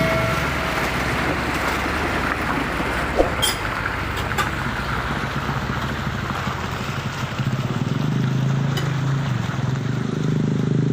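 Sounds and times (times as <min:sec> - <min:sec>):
diesel truck engine pulsing: 0:00.0 - 0:10.9.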